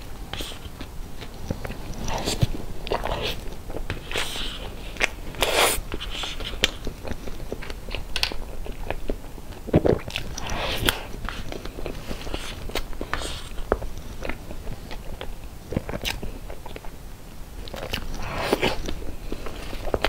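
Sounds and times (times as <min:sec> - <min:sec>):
wet chewing and lip smacking: 0:00.3 - 0:17.0.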